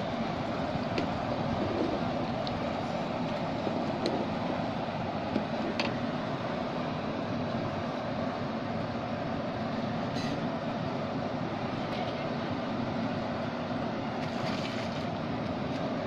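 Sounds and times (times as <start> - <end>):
gas burners roaring: 0.0 - 16.0.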